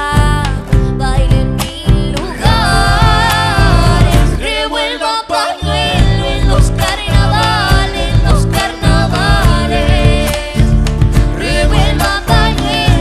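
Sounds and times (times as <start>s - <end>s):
hand percussion: 0.0s - 4.4s, 5.9s - 13.0s
bass: 0.0s - 5.0s, 5.6s - 13.0s
acoustic guitars: 0.0s - 13.0s
voices singing: 2.0s - 13.0s.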